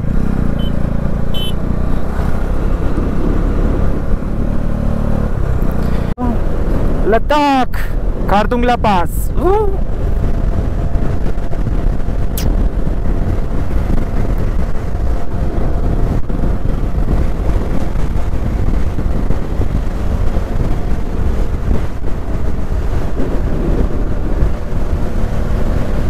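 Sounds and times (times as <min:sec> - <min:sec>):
motorcycle engine running: 0:00.0 - 0:07.0, 0:09.4 - 0:26.0
wind rushing over microphone: 0:00.0 - 0:26.0.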